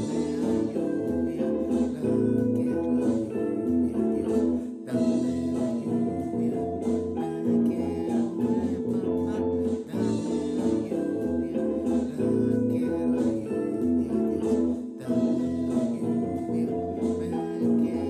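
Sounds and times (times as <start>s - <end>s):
drum kit playing: 0.0s - 18.0s
guitar-led song with drums: 0.0s - 18.0s.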